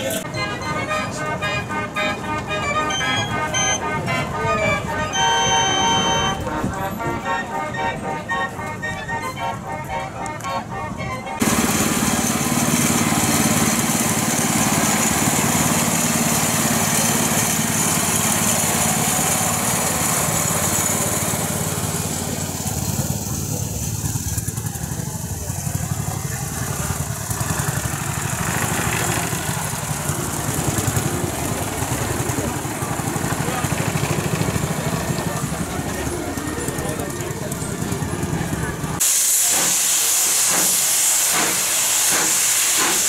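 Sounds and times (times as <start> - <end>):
vintage engine running: 0.0 - 43.0.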